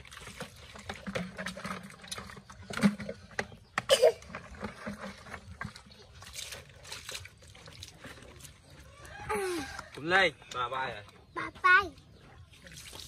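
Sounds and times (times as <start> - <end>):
water splashing and dripping: 0.0 - 13.0.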